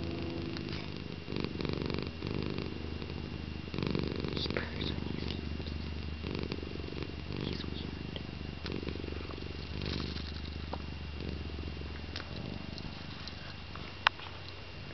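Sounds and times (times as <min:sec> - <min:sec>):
cat snoring: 0:00.0 - 0:14.0.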